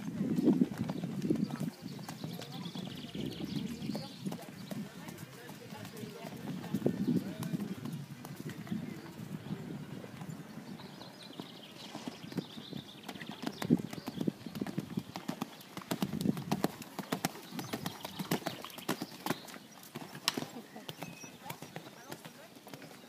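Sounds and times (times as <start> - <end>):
hooves cantering on sand: 0.0 - 23.0.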